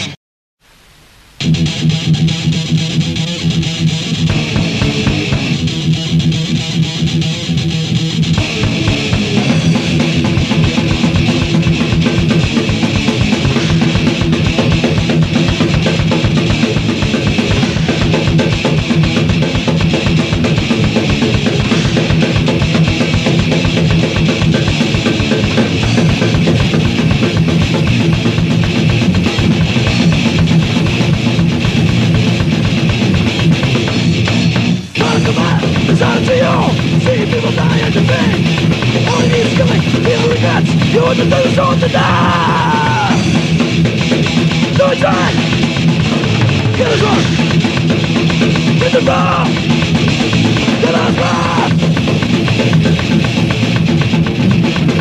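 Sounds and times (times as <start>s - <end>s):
fast dense drumming: 1.4s - 7.2s, 7.9s - 55.0s
guitars: 1.4s - 55.0s
thrash metal band playing: 1.4s - 55.0s.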